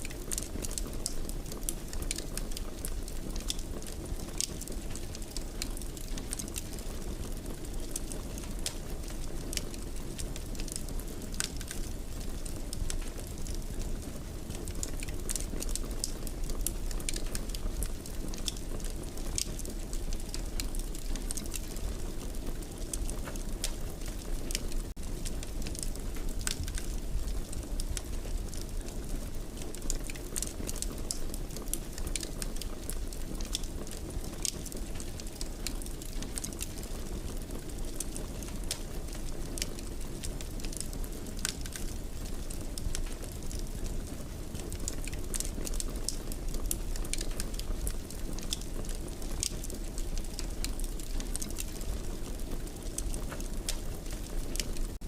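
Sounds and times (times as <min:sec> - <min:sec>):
fire pops and snaps: 0:00.0 - 0:55.0
low rumble of flames: 0:00.0 - 0:55.0
wood fire crackling: 0:00.0 - 0:55.0.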